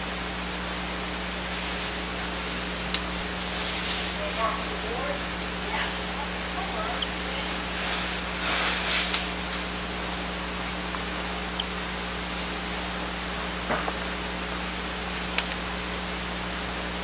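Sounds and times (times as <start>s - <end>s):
low electrical hum: 0.0s - 17.0s
steady hiss: 0.0s - 17.0s.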